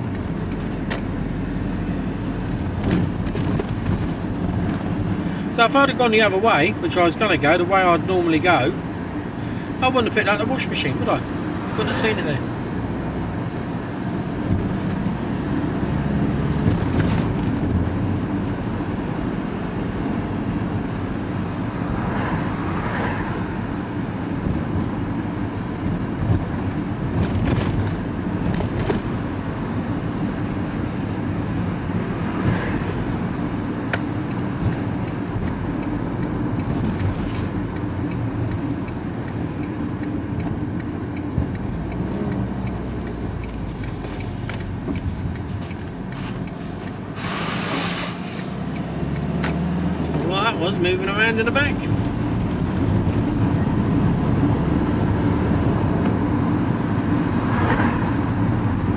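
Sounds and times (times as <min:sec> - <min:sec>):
vehicle engine and road hum: 0:00.0 - 0:58.9.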